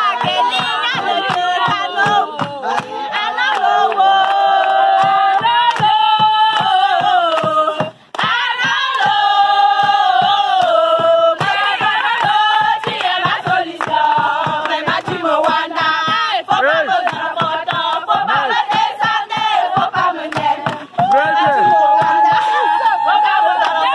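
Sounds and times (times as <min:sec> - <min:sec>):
group singing: 0:00.0 - 0:23.9
rhythmic hand clapping: 0:00.0 - 0:23.9.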